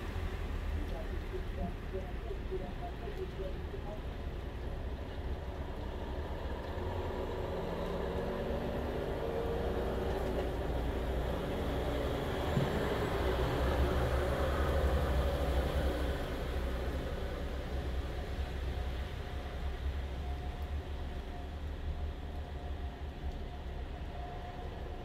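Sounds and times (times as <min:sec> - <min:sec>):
diesel vehicles on wet road: 0:00.0 - 0:25.0.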